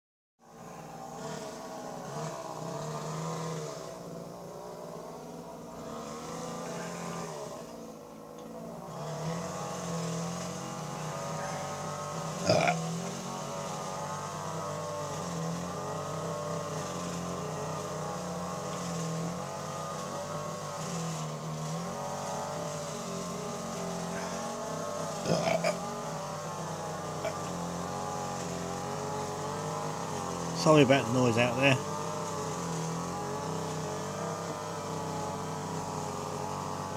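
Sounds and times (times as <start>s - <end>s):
motor engine running: 0.4s - 36.9s.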